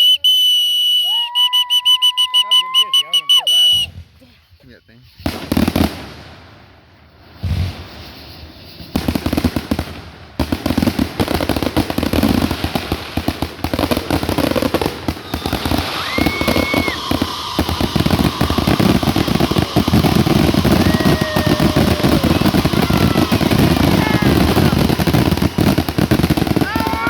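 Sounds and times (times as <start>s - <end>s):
fireworks bangs and crackles: 3.7s - 27.0s.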